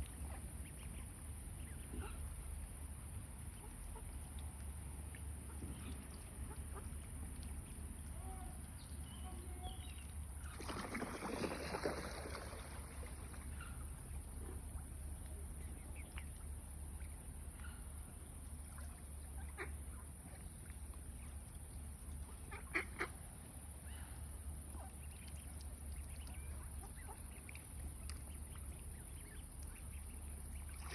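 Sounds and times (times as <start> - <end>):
ducks calling softly: 0.0 - 30.9.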